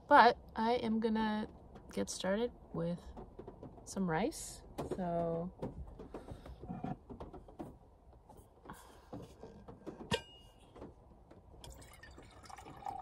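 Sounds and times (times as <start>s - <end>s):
light clicks and knocks: 1.2s - 11.7s.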